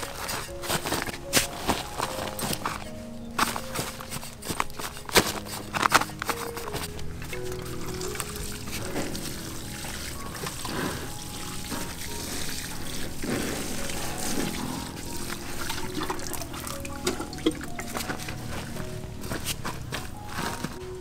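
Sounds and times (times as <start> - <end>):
watering can water pattering: 0.0 - 21.0.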